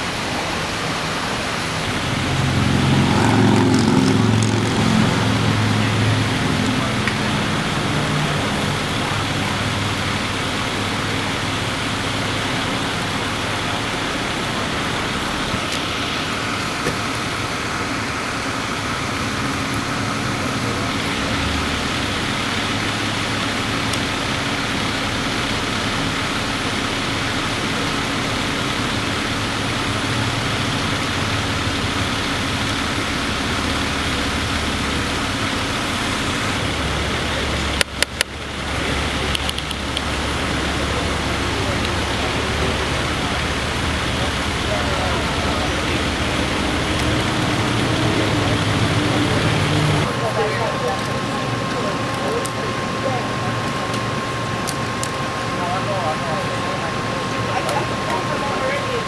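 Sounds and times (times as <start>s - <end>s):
roadway noise: 0.0s - 59.0s
vehicle engines idling: 0.0s - 59.0s.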